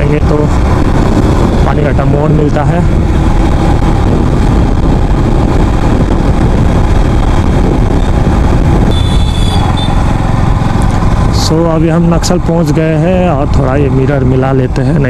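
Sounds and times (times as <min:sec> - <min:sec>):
motorcycle engine running: 0:00.0 - 0:14.7
wind rush over microphone: 0:00.0 - 0:15.0.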